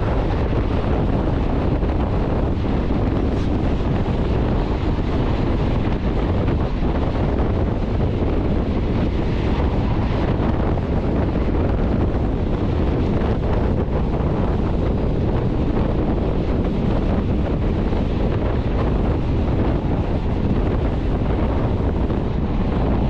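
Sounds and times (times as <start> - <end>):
train running noise: 0.0 - 23.0
wind rushing over microphone: 0.0 - 23.0.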